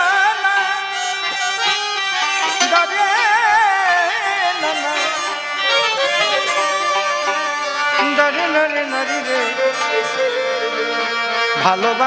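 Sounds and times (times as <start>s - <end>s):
folk music ensemble: 0.0s - 12.0s
violin wavering melody: 0.0s - 12.0s.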